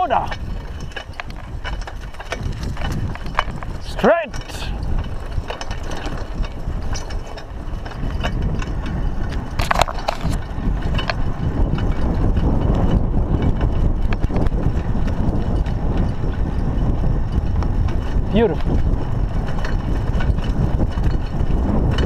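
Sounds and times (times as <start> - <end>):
bike clicks and rattles: 0.0 - 22.0
rasping clatter: 0.0 - 22.0
wind and tyre rumble: 0.0 - 22.0.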